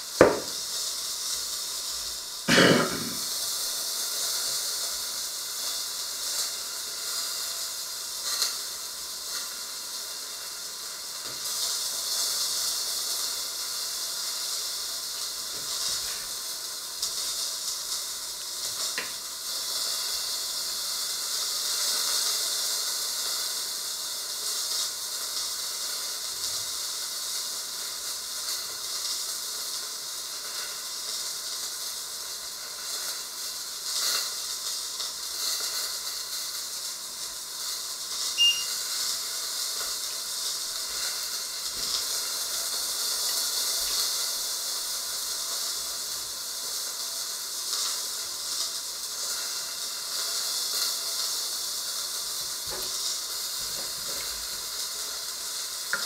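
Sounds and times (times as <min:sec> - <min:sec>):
cooking hiss on stovetop: 0:00.0 - 0:56.0.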